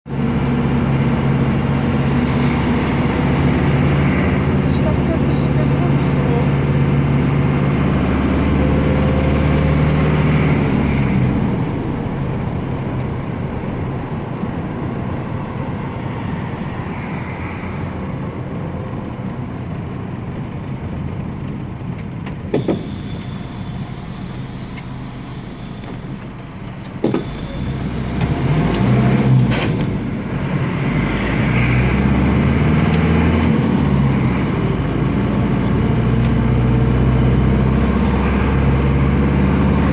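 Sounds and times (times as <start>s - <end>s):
diesel minibus engine running: 0.1s - 39.9s.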